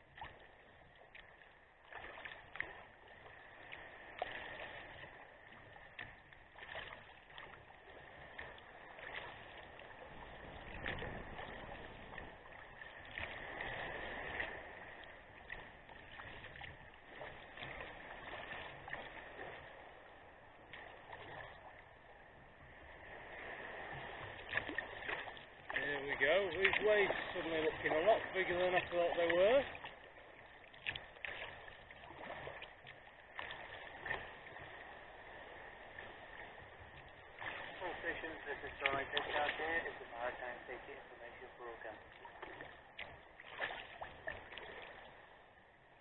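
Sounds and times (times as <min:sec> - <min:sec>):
paddle splashing into water: 0:00.0 - 0:46.0
water rushing along hull: 0:00.0 - 0:46.0.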